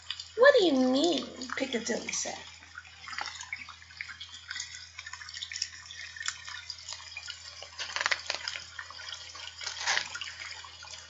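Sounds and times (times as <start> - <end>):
rain patter with drips: 0.0 - 11.0.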